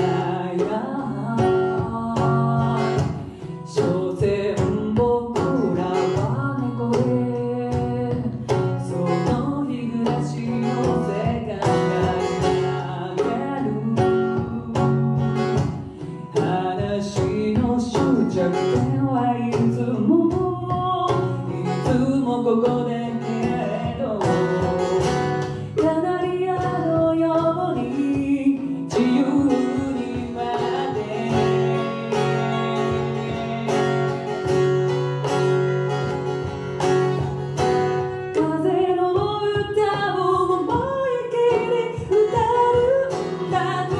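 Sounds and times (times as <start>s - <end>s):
woman singing: 0.0s - 34.9s, 37.1s - 43.9s
strummed acoustic guitar: 0.0s - 43.9s.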